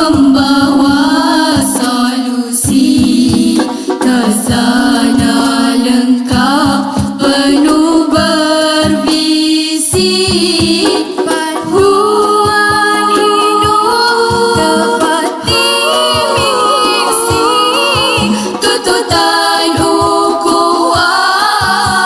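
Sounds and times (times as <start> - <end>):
short percussion beats: 0.0 - 22.0
vocal group singing harmonies: 0.0 - 22.0.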